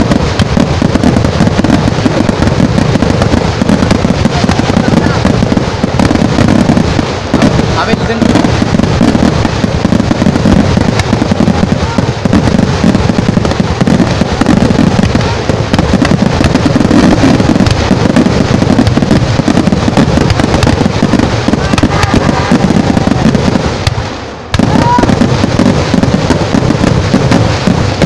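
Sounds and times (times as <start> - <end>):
firecracker bangs and crackling: 0.0 - 28.0.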